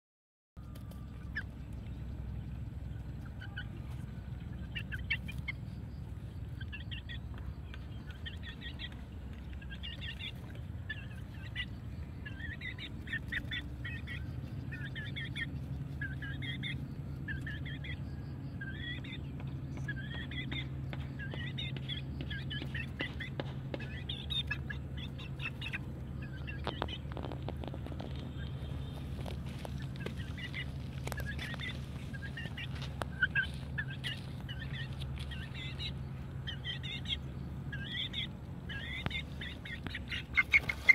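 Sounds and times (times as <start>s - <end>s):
chick peeping: 0.6s - 40.9s
low steady hum: 0.6s - 40.9s.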